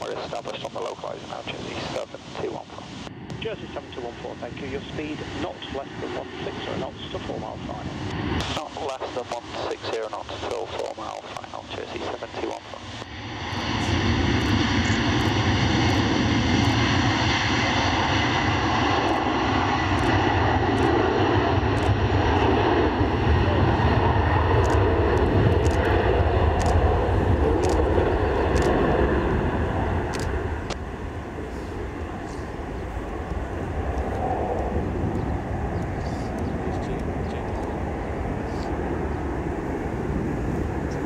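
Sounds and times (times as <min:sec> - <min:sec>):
airliner engines running: 0:00.0 - 0:41.0.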